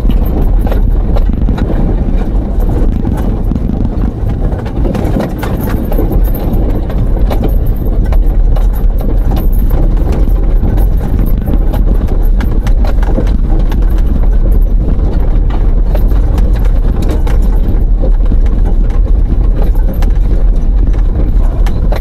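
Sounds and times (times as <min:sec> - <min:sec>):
knocks and rattles from bumps: 0:00.0 - 0:22.0
vehicle engine and tyres rumbling: 0:00.0 - 0:22.0.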